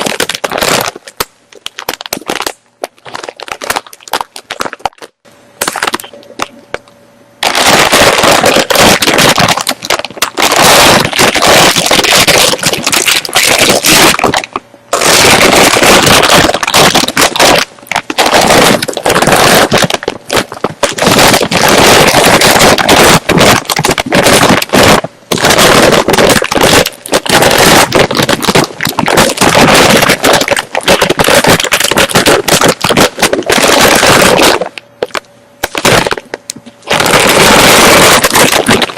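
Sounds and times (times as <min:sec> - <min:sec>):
crunchy chips being chewed: 0:00.0 - 0:06.5, 0:07.4 - 0:36.3, 0:36.9 - 0:38.9.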